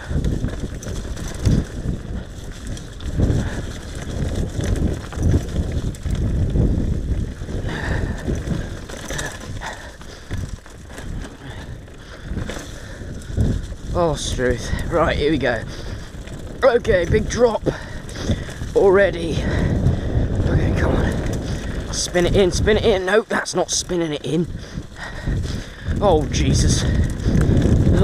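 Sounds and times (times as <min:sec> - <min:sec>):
bike knocking and rattling: 0:00.0 - 0:28.0
bike tyres rumbling on dirt: 0:00.0 - 0:28.0.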